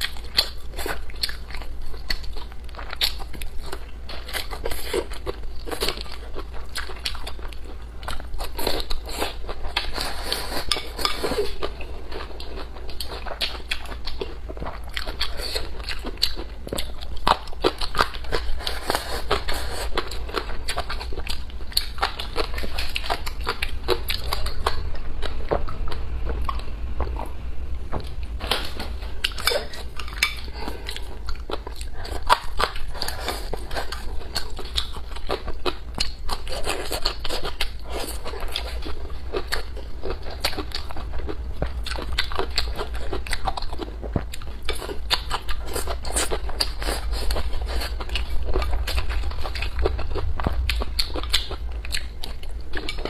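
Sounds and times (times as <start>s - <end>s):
chewing and crunching food: 0.0s - 53.0s
steady low hum: 0.0s - 53.0s.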